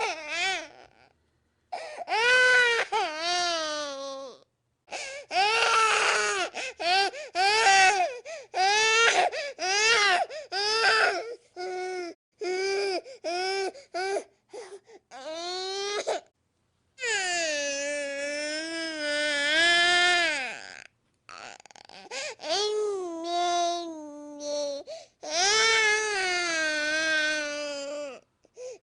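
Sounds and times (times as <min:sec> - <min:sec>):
baby crying: 0:00.0 - 0:01.1, 0:01.8 - 0:04.4, 0:05.0 - 0:14.3, 0:17.0 - 0:28.2.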